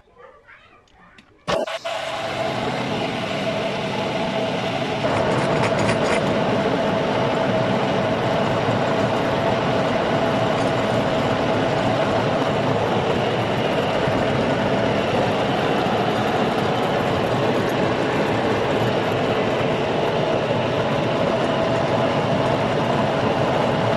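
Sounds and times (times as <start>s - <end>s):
metal lathe whining: 1.5s - 23.9s.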